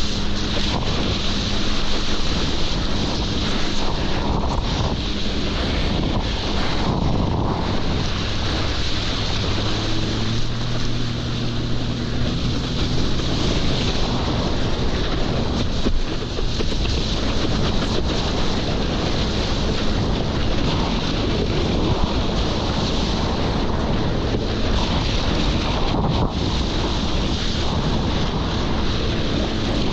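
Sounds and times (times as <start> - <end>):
jet ski engine humming: 0.0 - 29.9
water rushing: 0.0 - 29.9
wind buffeting microphone: 0.0 - 29.9.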